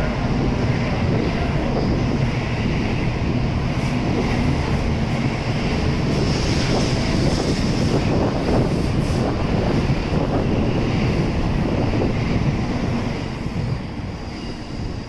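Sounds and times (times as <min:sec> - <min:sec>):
train cars rolling past: 0:00.0 - 0:15.0.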